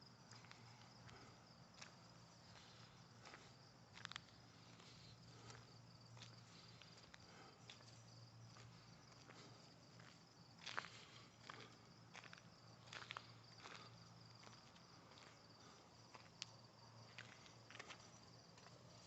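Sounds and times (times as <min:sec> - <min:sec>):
faint insect chirring: 0:00.0 - 0:19.0.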